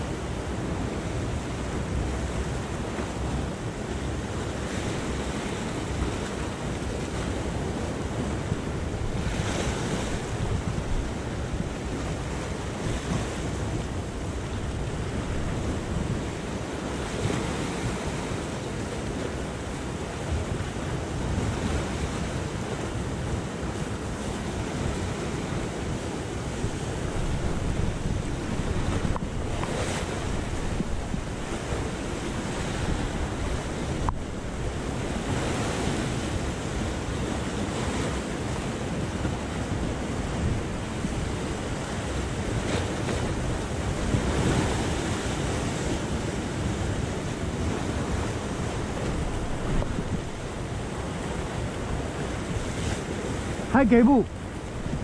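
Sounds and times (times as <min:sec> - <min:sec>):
wind buffeting microphone: 0:00.0 - 0:55.0
surf breaking over rocks: 0:02.1 - 0:22.6, 0:23.6 - 0:55.0.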